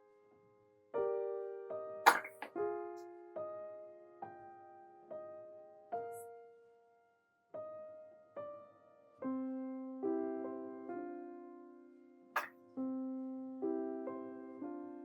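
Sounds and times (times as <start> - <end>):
slow solo piano melody: 0.9 - 6.6, 7.6 - 15.0.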